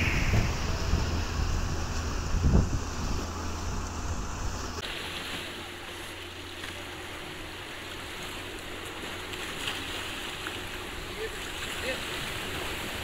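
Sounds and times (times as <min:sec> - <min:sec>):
distant outboard motor drone: 0:00.0 - 0:13.0
waves washing: 0:00.0 - 0:13.0.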